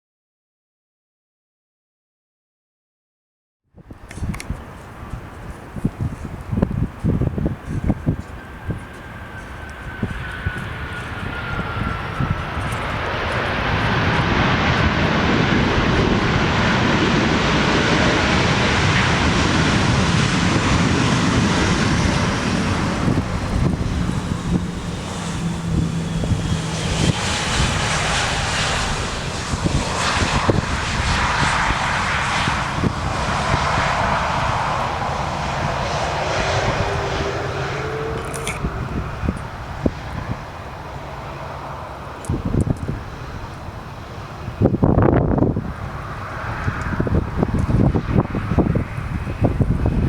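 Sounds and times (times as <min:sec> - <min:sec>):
jet airliner engines passing: 0:03.8 - 0:50.0.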